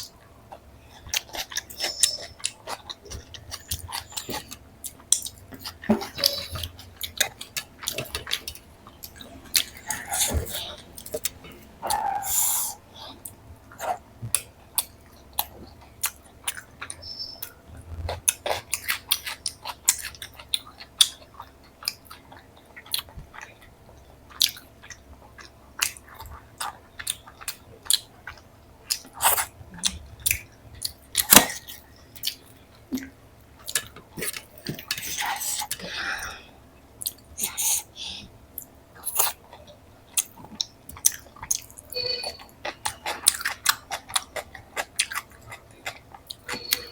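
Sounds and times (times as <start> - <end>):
chewing and mouth sounds: 0.0 - 46.9.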